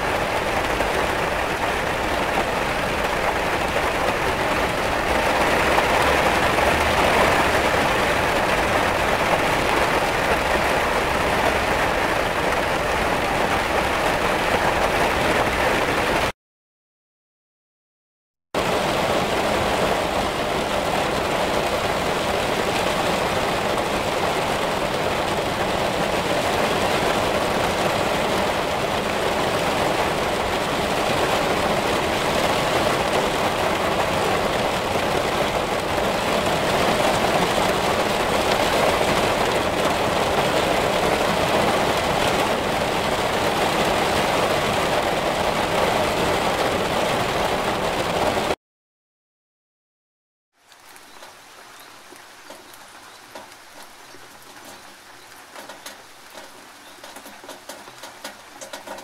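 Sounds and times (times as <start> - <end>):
heavy rain falling: 0.0 - 16.3, 18.6 - 48.6, 50.5 - 59.0.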